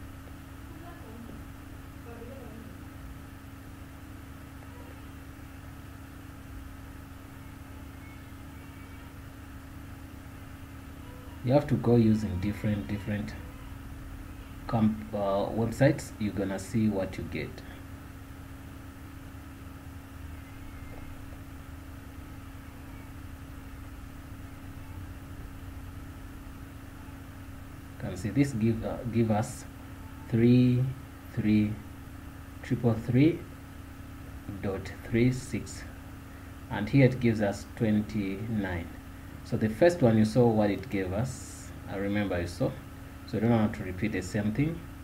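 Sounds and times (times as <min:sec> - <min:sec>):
low machine hum: 0:00.0 - 0:45.0.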